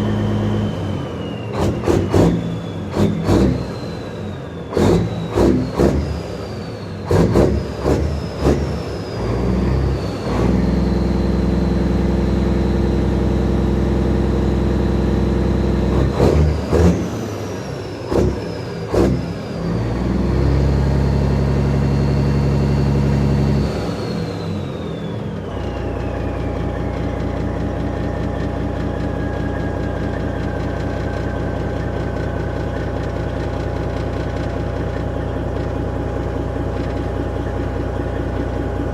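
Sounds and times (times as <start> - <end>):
diesel truck engine revving: 0.0 - 38.9.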